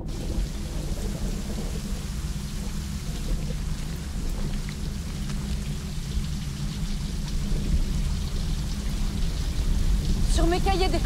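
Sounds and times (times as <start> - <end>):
heavy rain falling: 0.0 - 11.0
rumble of thunder: 0.0 - 11.0.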